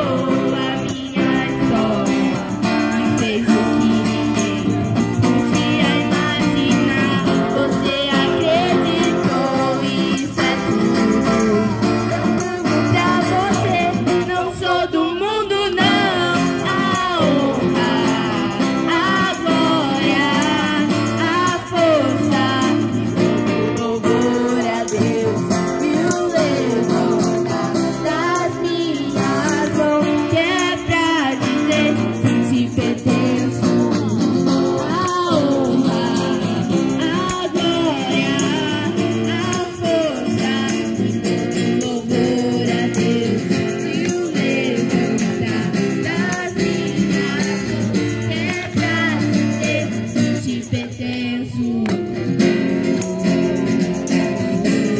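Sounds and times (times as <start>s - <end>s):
man singing along: 0.0s - 52.1s
woman singing: 0.0s - 52.2s
acoustic guitar strumming: 0.0s - 54.9s.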